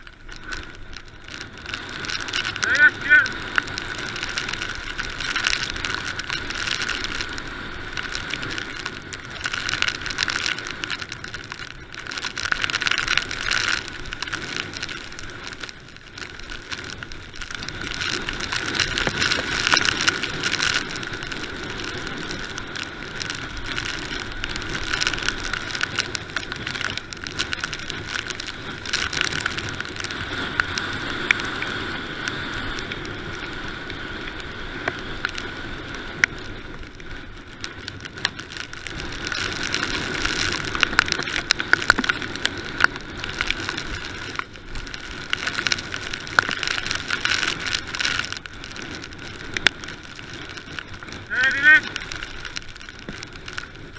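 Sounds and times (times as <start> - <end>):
bike rattling: 0.0 - 53.9
bike tyres on gravel: 0.0 - 53.9.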